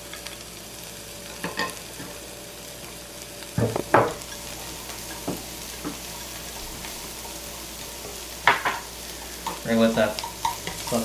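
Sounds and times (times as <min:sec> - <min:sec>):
onion and garlic sizzling in a pan: 0:00.0 - 0:11.0.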